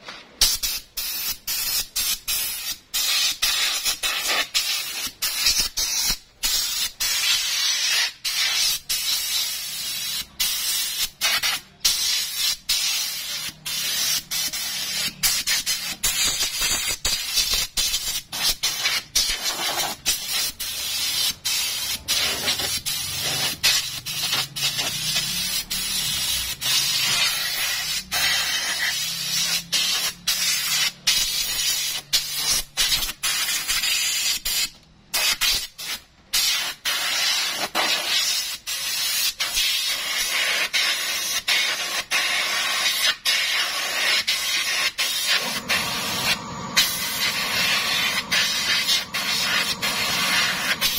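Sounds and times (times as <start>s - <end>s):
compressed air hissing: 0.4s - 50.9s.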